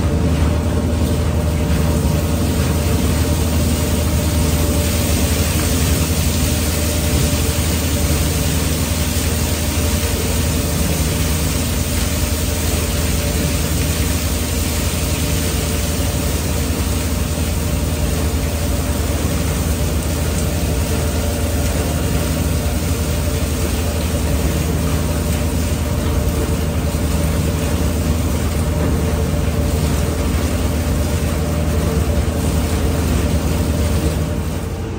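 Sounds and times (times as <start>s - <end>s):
mixer motors humming: 0.0s - 34.9s
water jets spraying: 0.0s - 34.9s.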